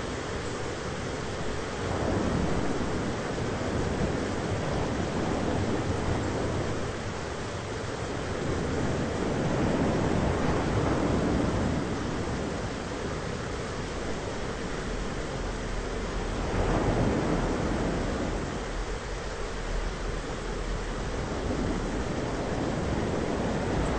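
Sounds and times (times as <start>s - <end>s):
rain: 0.0s - 23.9s
low thunder rumble: 1.8s - 7.2s, 8.2s - 23.9s.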